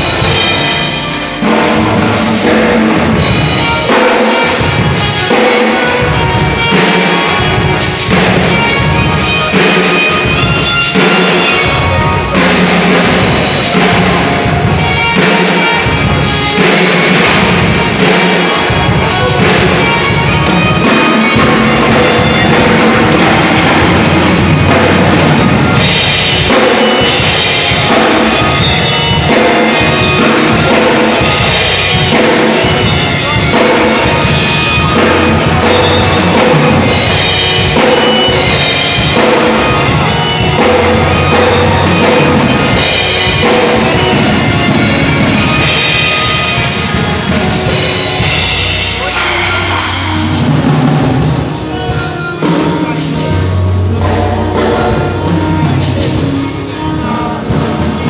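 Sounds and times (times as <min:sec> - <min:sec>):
backing music: 0:00.0 - 0:58.0
drum kit playing: 0:00.0 - 0:58.0.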